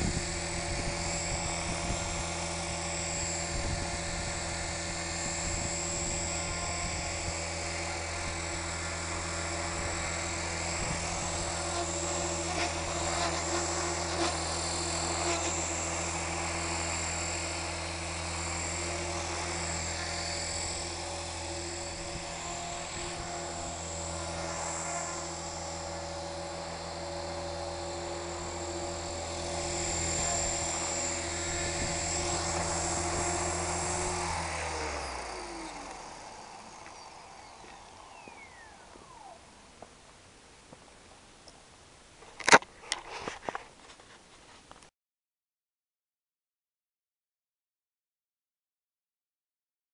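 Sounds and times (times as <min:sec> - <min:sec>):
rc helicopter hovering whine: 0:00.0 - 0:44.0.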